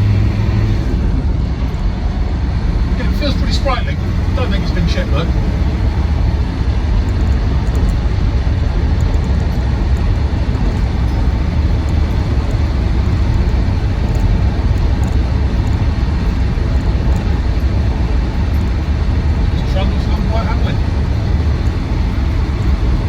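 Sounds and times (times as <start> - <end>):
diesel engine and road noise: 0.0 - 23.0.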